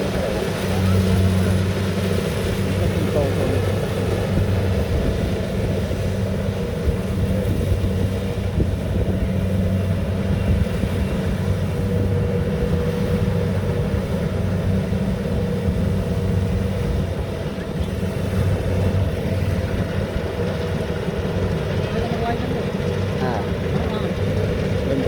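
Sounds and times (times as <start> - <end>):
combine harvester engine running: 0.0 - 25.0.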